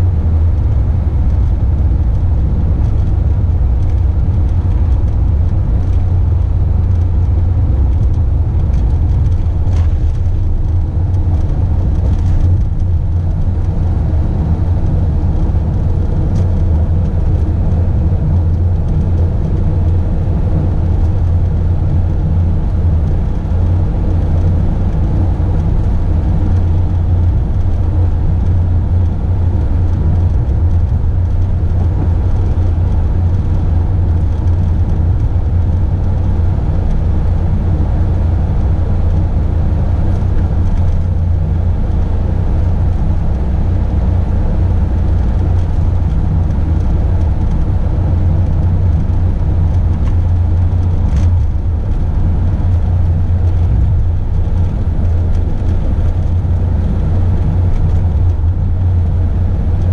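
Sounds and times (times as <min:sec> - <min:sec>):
engine and tyre drone: 0:00.0 - 0:59.9.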